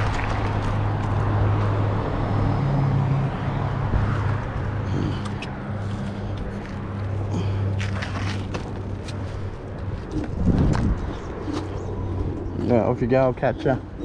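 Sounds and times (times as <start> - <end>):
wind rushing over microphone: 0.0 - 6.9, 9.4 - 14.0
electric scooter hum: 0.0 - 14.0.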